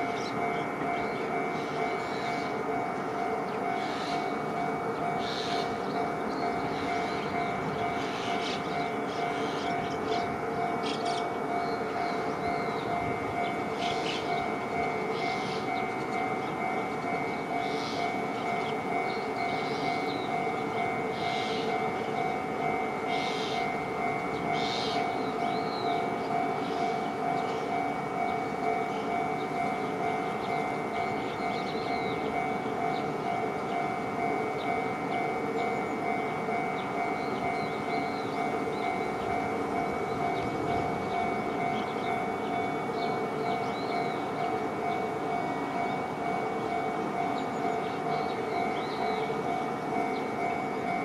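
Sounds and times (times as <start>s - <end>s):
level crossing warning bell: 0.0s - 51.0s
train passing rumble: 0.0s - 51.0s.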